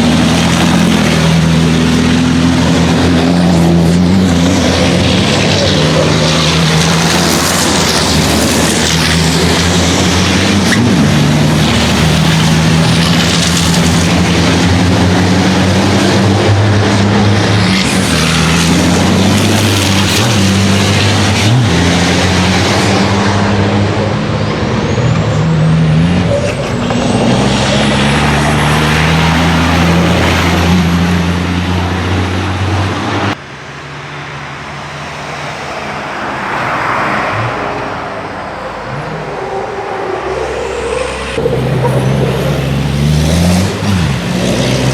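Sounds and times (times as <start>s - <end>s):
truck diesel engines revving: 0.0s - 44.9s.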